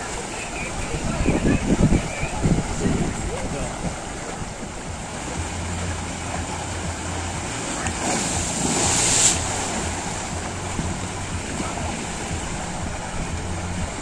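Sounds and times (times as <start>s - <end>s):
water rushing through slide tube: 0.0s - 14.0s.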